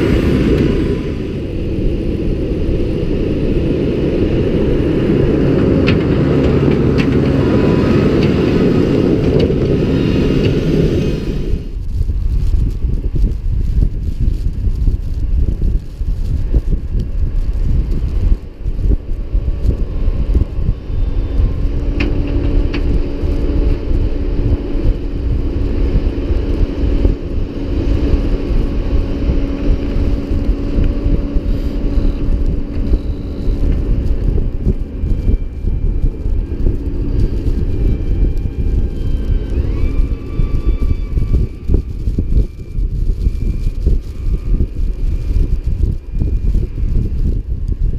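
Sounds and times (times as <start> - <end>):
tractor engine running: 0.0 - 47.9
wind rumble on microphone: 0.0 - 47.9.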